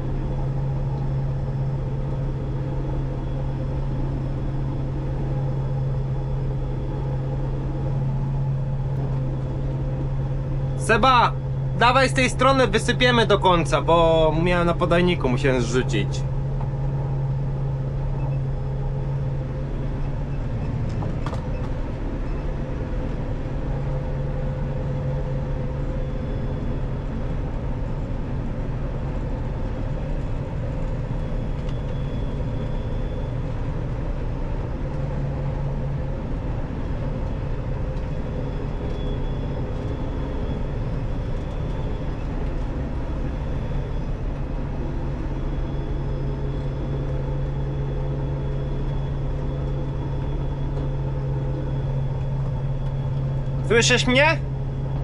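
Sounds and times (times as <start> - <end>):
combine harvester engine droning: 0.0 - 55.0.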